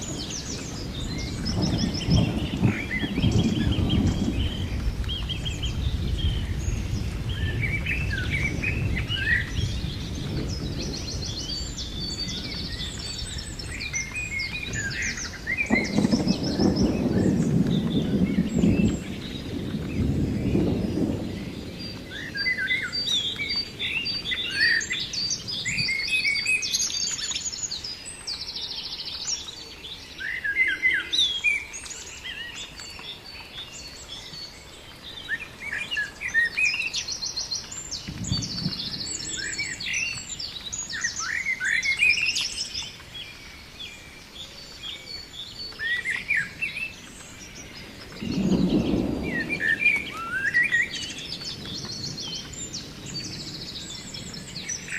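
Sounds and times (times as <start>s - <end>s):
birds chirping and singing: 0.0s - 54.9s.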